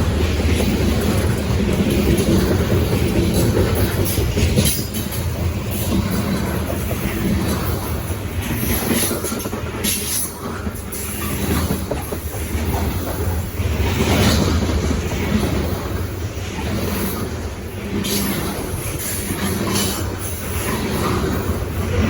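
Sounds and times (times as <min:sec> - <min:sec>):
freight train rolling past: 0:00.0 - 0:22.0
wheels clacking on rail: 0:00.0 - 0:22.0.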